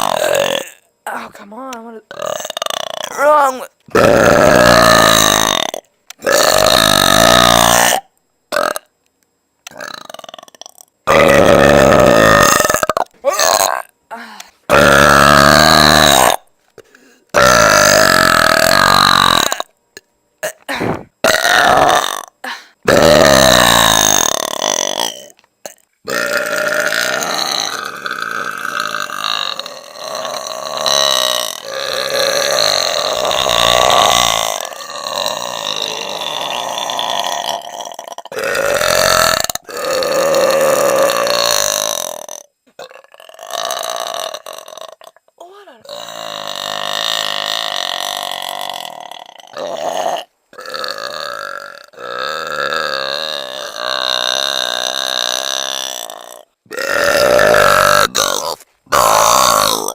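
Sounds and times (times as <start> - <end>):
woman belching loudly: 0.0 - 1.3, 2.1 - 8.9, 9.7 - 16.4, 17.4 - 19.7, 20.4 - 59.9.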